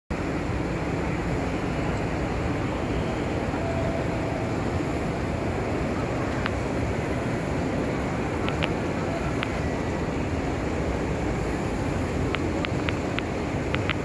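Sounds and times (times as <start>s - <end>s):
railway station ambient rumble: 0.1s - 14.0s.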